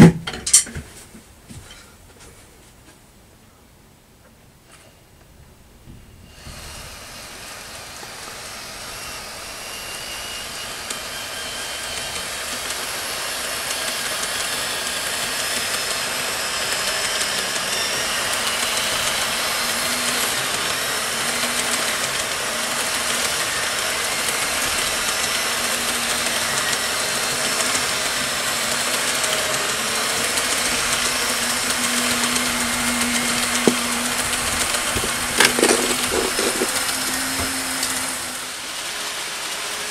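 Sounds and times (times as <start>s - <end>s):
model train wheels rolling: 6.2s - 39.9s.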